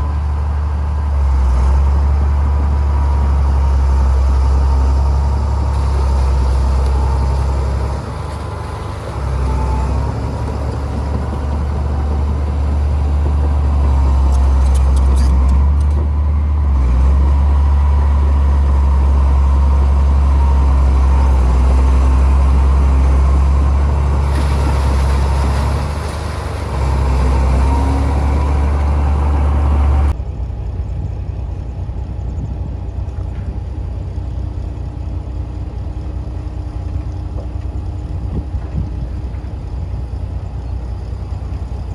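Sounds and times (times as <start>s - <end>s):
diesel machinery engine rumble: 0.0s - 41.9s.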